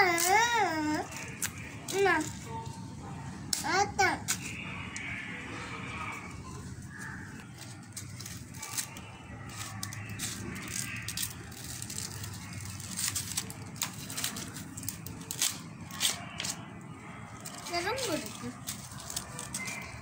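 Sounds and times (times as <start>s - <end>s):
corn husks crackling and tearing: 0.0s - 5.2s, 6.2s - 20.0s.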